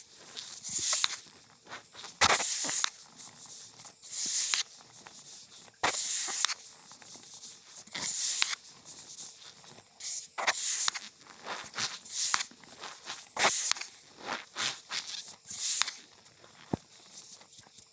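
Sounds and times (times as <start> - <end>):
cornstarch squeaky crunching: 0.0 - 17.5.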